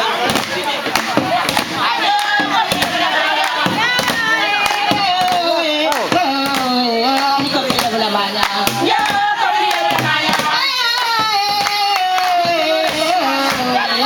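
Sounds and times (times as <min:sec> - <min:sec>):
rhythmic hand clapping: 0:00.0 - 0:14.0
women singing together: 0:00.0 - 0:14.0.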